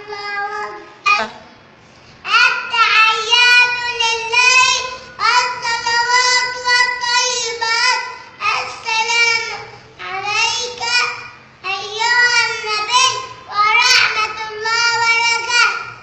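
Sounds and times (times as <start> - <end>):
boy chanting prayer: 0.0 - 1.5, 2.2 - 16.0.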